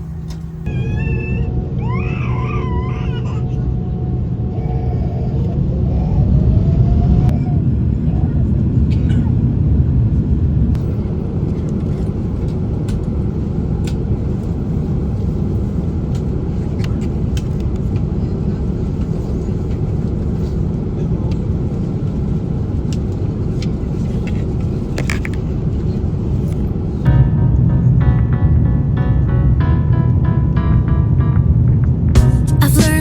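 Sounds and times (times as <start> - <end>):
vehicle rumble inside cabin: 0.0 - 32.7.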